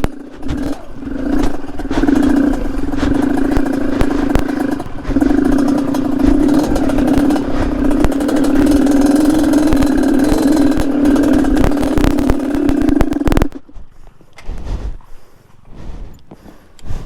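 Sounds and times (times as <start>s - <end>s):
two-stroke motorcycle engine revving: 0.0s - 13.9s.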